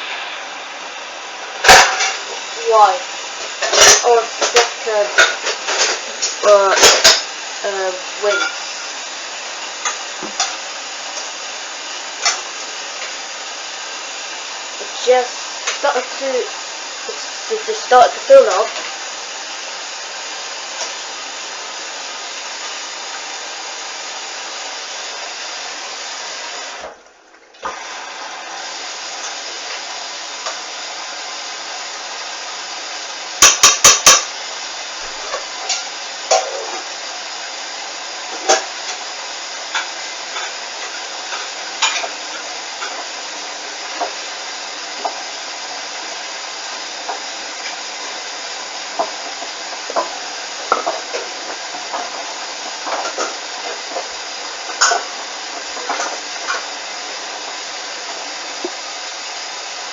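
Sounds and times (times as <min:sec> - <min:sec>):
water running into washing machine: 0:00.0 - 0:59.9.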